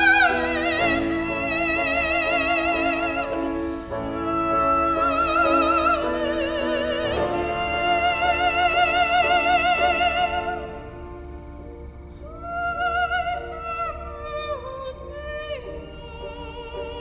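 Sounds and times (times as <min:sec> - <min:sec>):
piano accompaniment: 0:00.0 - 0:17.0
soprano singing with vibrato: 0:00.0 - 0:17.0.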